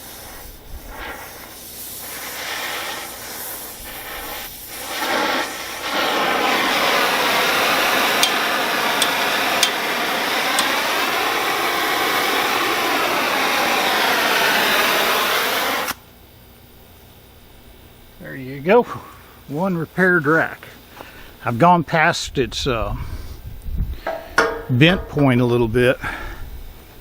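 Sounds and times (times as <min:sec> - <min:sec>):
torch flame hissing: 0:00.0 - 0:16.0, 0:18.1 - 0:27.0.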